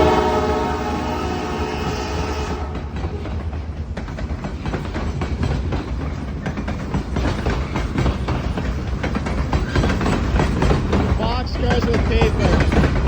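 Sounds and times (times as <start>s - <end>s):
low train rumble: 0.0s - 13.0s
train wheels clattering over rails: 0.0s - 13.0s.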